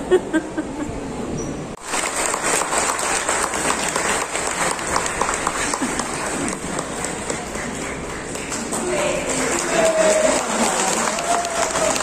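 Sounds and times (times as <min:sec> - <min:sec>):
crowd voices: 0:00.0 - 0:12.0
audience applauding: 0:01.8 - 0:12.0.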